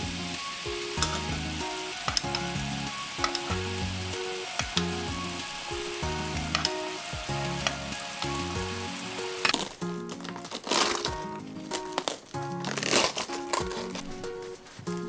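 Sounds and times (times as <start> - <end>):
background music: 0.0 - 15.0
glaze sizzling and bubbling: 0.0 - 15.0.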